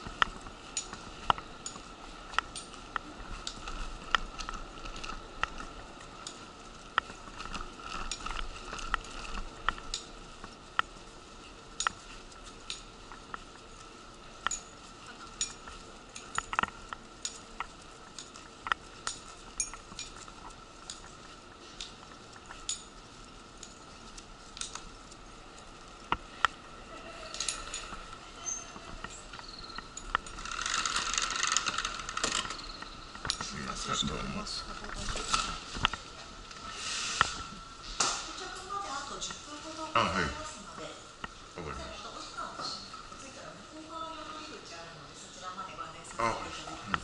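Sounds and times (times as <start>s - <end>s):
wheelchair rattling on concrete: 0.0s - 45.4s.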